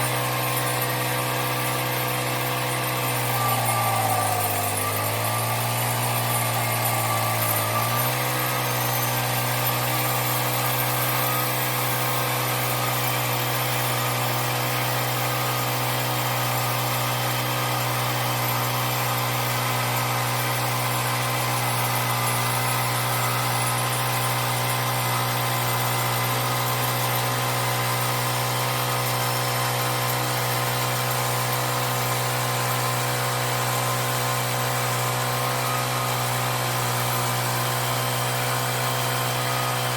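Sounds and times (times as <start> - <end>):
saw blade cutting log: 0.0 - 39.9
sawmill engine running: 0.0 - 39.9.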